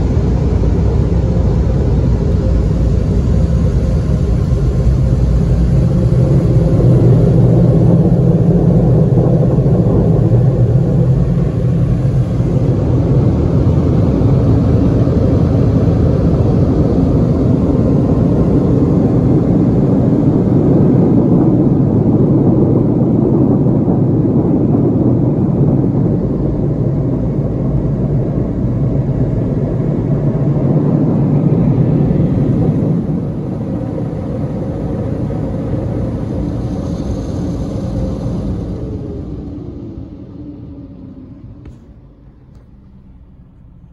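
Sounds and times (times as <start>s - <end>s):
car wash dryer blowers: 0.0s - 43.9s.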